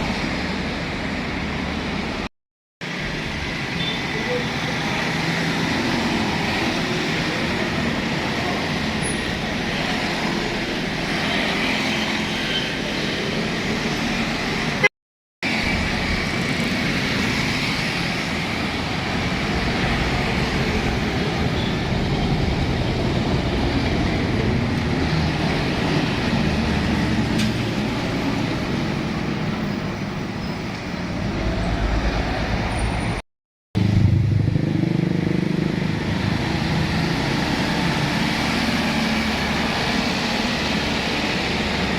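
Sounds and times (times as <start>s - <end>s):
traffic passing: 0.0s - 33.2s, 33.8s - 41.9s.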